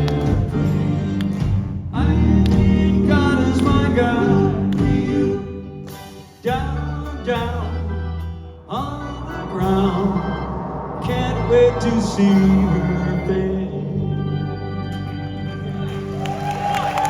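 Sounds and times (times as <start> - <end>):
live band with vocal harmonies: 0.0 - 15.6.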